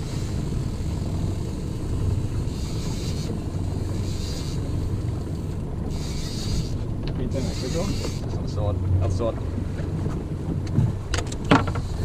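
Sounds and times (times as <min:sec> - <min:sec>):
boat motor droning: 0:00.0 - 0:12.0
wind and water hiss: 0:00.0 - 0:12.0.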